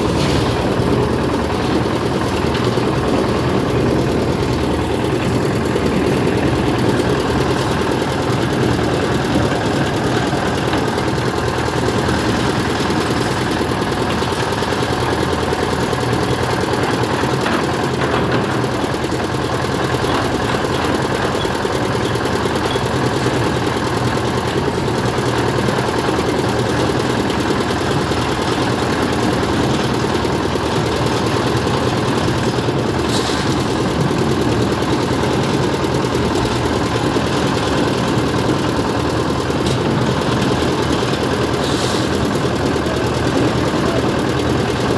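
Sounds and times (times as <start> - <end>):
engine running steadily: 0.0 - 44.9.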